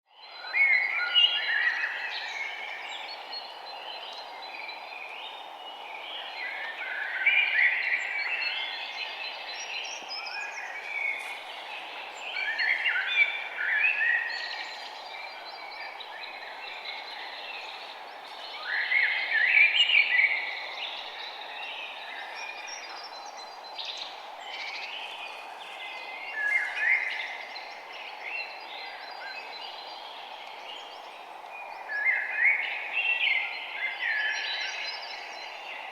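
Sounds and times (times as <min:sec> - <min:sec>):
songbirds singing: 0:00.1 - 0:35.9.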